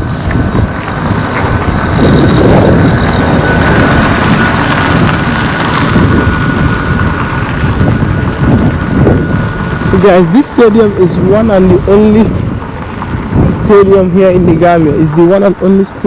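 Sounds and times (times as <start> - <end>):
thin high whine: 0.0 - 13.8
wind buffeting microphone: 0.0 - 16.0.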